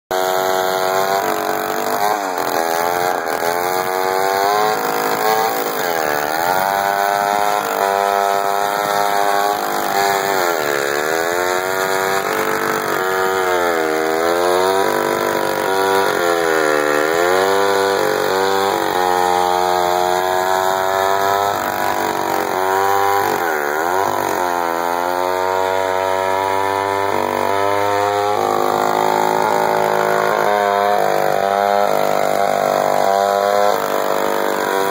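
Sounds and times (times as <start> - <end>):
chainsaw cutting a log: 0.1 - 34.9.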